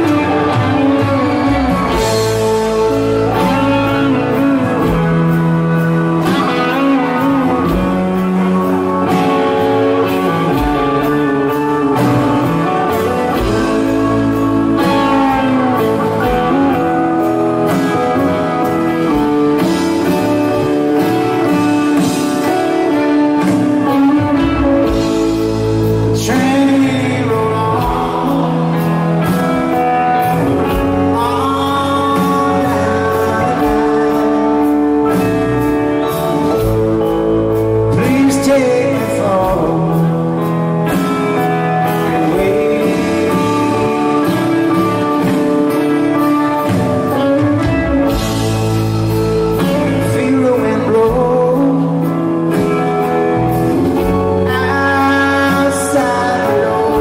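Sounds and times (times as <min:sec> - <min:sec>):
song with singing over guitar: 0:00.0 - 0:57.0.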